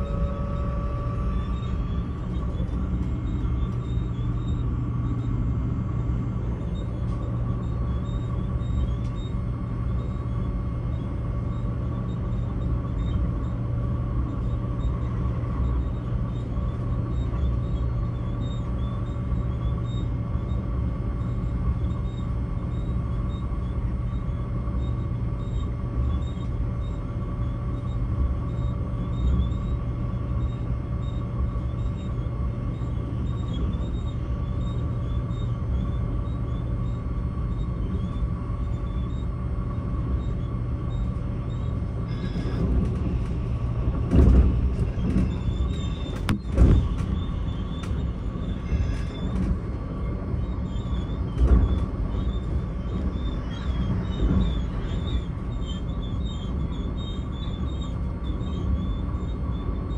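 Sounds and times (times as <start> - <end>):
train drive whine: 0.0 - 59.9
train wheels rumbling on track: 0.0 - 59.9.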